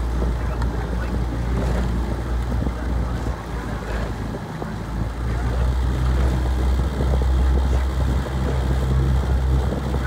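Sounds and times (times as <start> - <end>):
motorboat engine humming: 0.0 - 10.0
water noise: 0.0 - 10.0
wind: 0.0 - 10.0.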